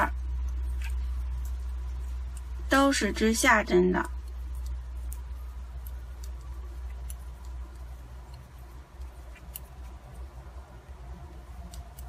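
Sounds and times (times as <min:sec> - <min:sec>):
knitting needles ticking: 0:00.0 - 0:12.0
low hum: 0:00.0 - 0:12.0.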